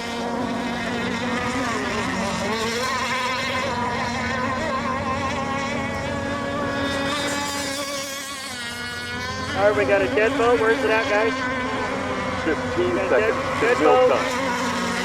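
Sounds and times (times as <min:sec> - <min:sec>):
small boat engines whining: 0:00.0 - 0:15.0.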